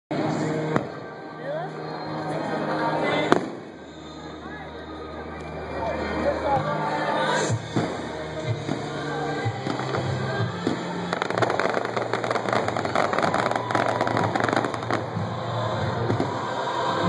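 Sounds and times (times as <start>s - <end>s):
fireworks crackling: 0.1s - 4.2s, 7.3s - 17.0s
music playing: 0.1s - 17.0s.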